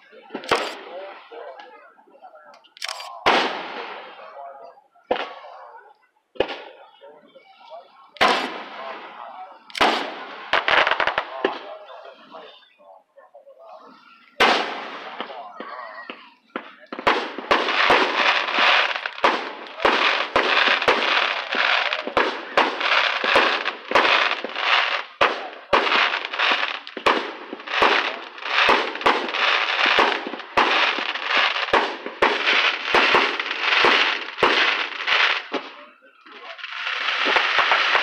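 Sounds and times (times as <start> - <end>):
fireworks banging: 0.0 - 12.7, 13.8 - 38.0.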